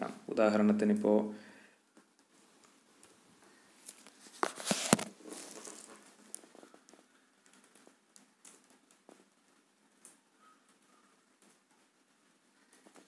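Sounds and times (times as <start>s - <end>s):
rustling: 1.8s - 13.0s.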